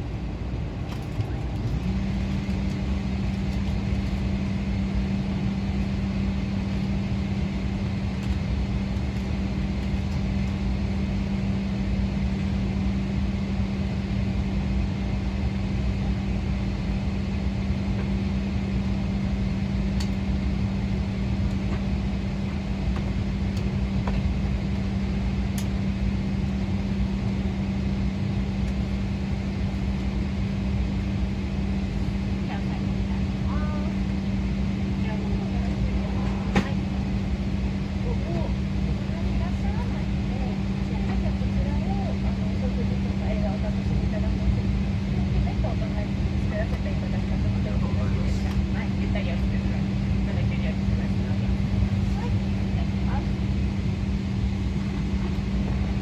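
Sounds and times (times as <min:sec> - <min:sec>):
airplane cabin rumble and hum: 0:00.0 - 0:56.0.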